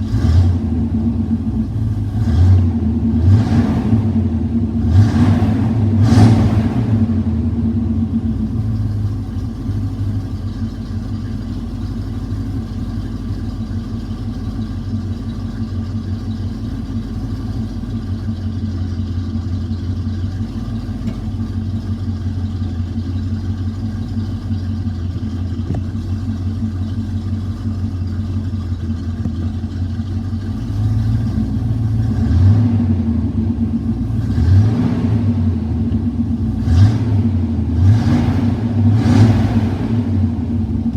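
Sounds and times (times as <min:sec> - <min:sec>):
vee eight engine idling and revving: 0:00.0 - 0:40.9.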